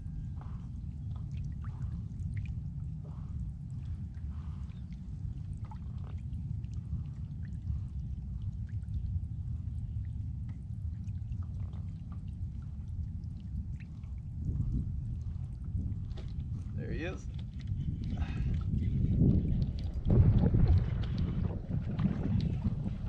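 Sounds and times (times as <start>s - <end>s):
low steady rumble: 0.0s - 23.0s
water trickling and lapping: 0.0s - 23.0s.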